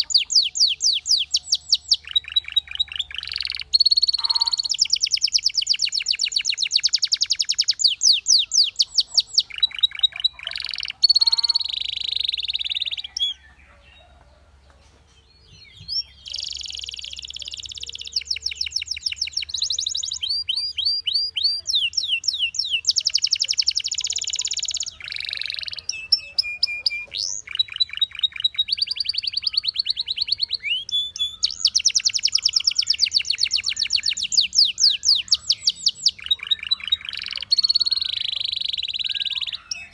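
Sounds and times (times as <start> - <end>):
canary singing trills: 0.0 - 14.5, 15.2 - 39.9.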